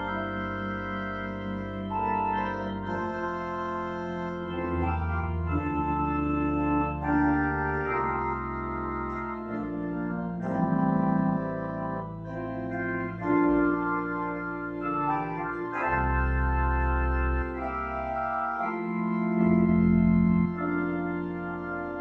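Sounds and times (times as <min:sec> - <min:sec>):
church organ playing chords: 0:00.0 - 0:22.0.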